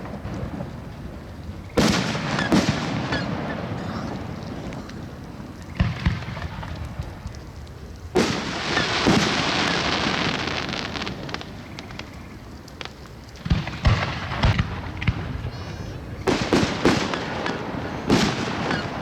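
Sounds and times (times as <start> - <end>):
firework booms: 0.0 - 7.3, 8.1 - 12.1, 12.8 - 19.0
firework burst: 0.0 - 7.3, 8.1 - 12.1, 12.7 - 19.0
crackling hiss of fireworks: 0.0 - 19.0.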